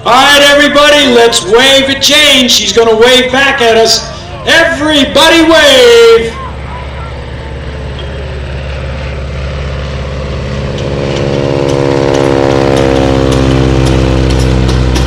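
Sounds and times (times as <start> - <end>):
propeller plane droning past: 0.0 - 15.0.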